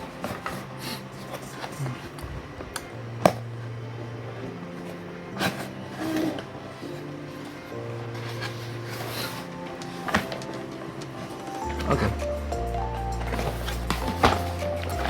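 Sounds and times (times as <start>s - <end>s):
cardboard rustling: 0.0s - 3.6s, 4.4s - 15.0s
faint background music: 0.0s - 15.0s.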